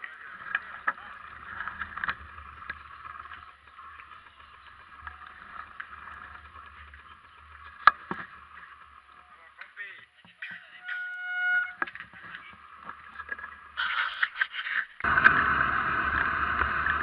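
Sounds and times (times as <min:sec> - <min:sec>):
low rumble from moving camera: 0:00.0 - 0:14.2, 0:15.0 - 0:17.0.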